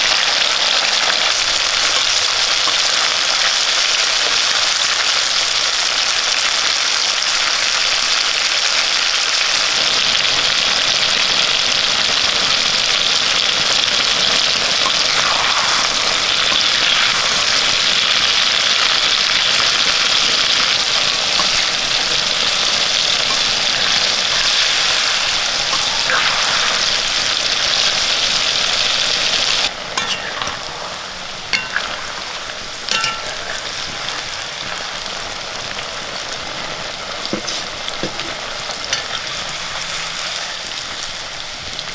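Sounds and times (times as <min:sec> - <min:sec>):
loud oil sizzle: 0:00.0 - 0:41.9.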